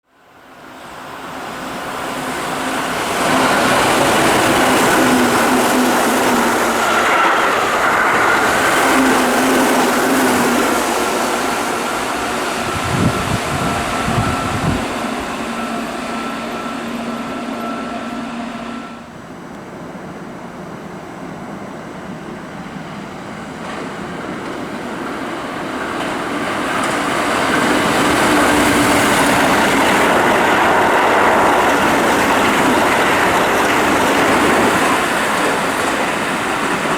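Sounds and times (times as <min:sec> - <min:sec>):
electric train approaching: 0:00.1 - 0:36.9
electric train passing: 0:00.1 - 0:36.9.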